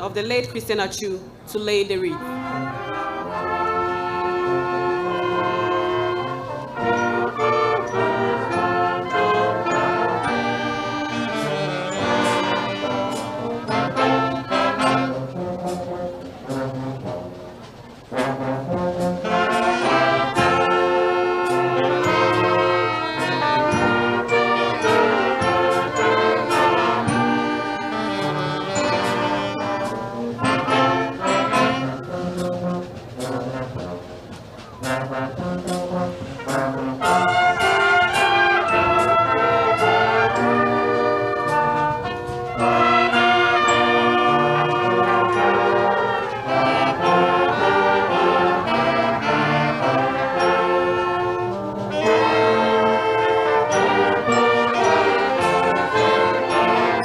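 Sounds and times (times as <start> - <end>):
brass ensemble playing chords: 1.8 - 57.0.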